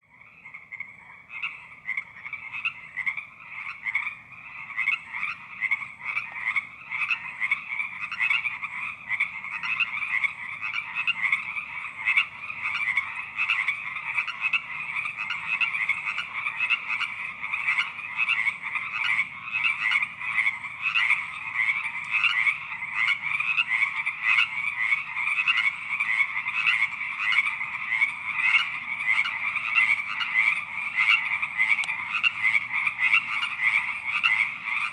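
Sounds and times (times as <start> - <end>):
toads and frogs croaking: 0.0 - 34.9.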